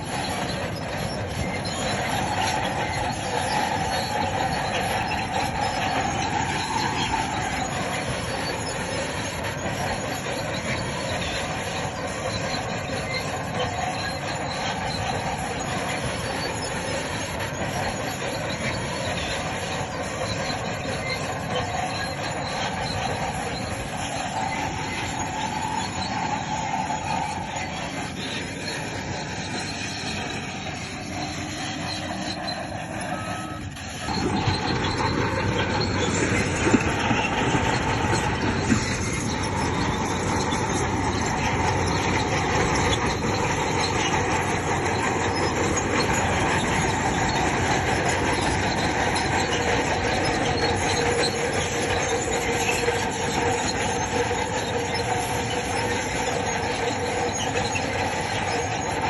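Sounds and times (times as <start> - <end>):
bulldozer engine running: 0.0 - 59.0
metallic squeal of steel tracks: 0.0 - 59.0.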